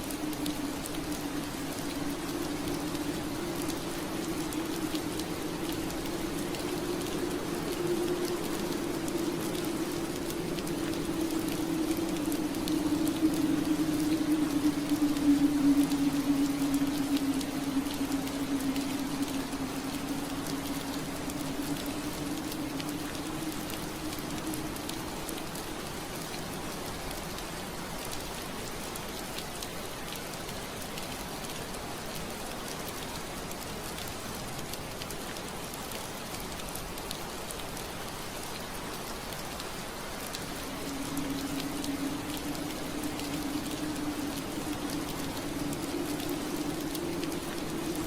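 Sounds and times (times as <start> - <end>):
low steady drone: 0.0 - 28.7, 37.7 - 48.0
rain pattering on window glass: 0.0 - 48.0.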